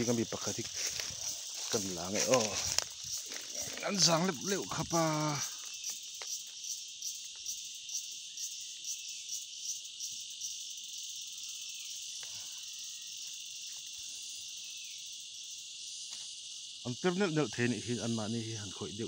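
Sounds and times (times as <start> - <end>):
fast pulsing insect call: 0.0 - 19.0
insects chirring: 0.0 - 19.0.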